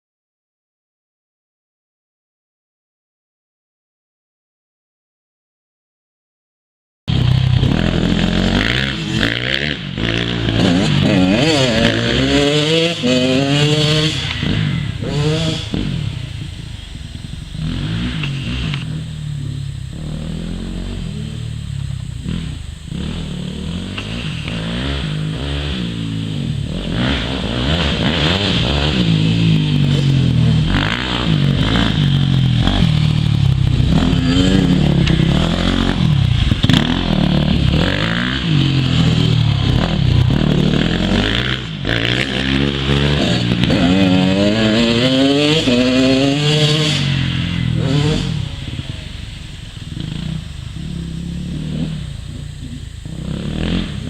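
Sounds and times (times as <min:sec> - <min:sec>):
motocross bikes revving: 0:07.1 - 0:54.0.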